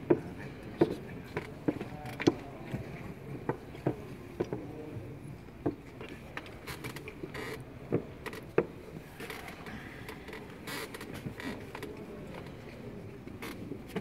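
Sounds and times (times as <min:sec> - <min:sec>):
low background hubbub: 0:00.0 - 0:14.0.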